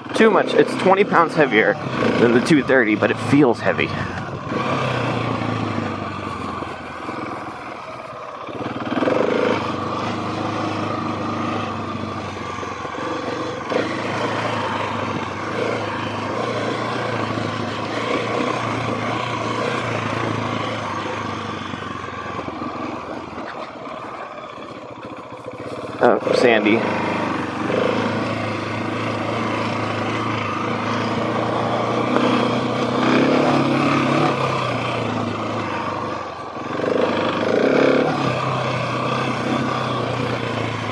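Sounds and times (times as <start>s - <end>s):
motorcycle engine running: 0.0s - 40.9s
tyres on dirt: 0.0s - 40.9s.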